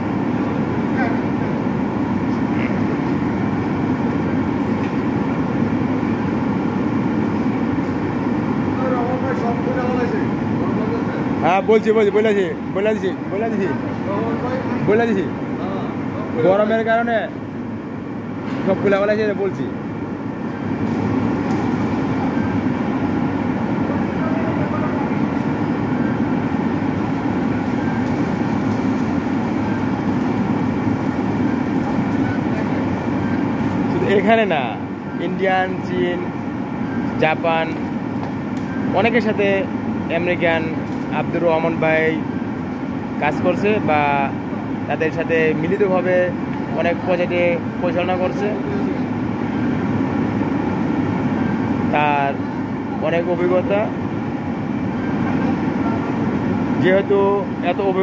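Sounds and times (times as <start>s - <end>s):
machinery rumbling: 0.0s - 58.0s.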